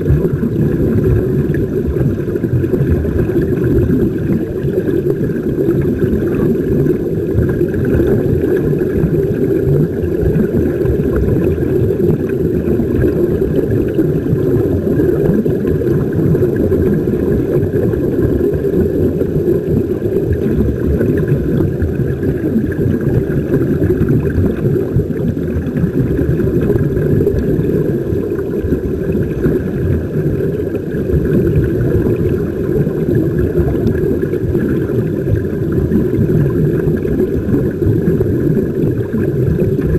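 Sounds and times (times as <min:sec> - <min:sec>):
air bubbling in water: 0:00.0 - 0:39.9
muffled underwater rumble: 0:00.0 - 0:39.9.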